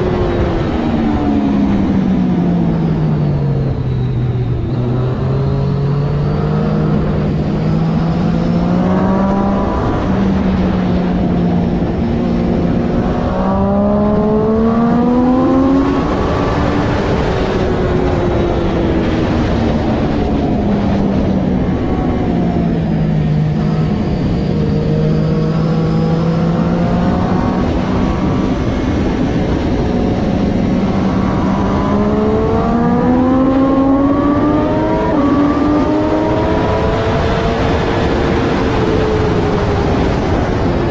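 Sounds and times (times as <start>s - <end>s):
motorcycle engine revving through upshifts: 0.0s - 40.9s.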